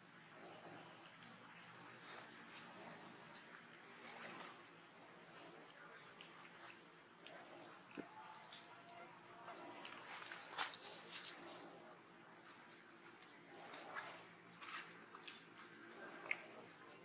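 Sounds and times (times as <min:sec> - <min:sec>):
insects trilling in grass: 0:00.0 - 0:17.0.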